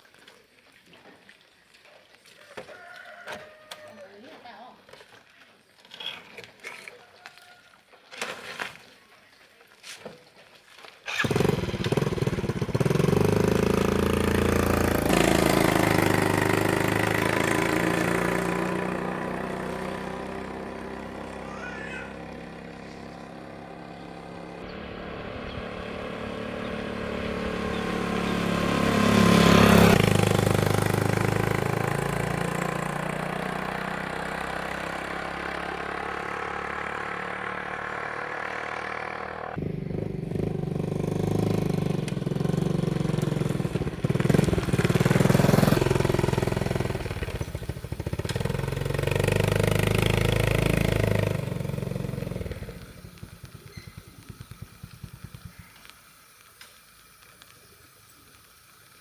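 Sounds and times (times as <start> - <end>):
small engine running: 11.1 - 59.0.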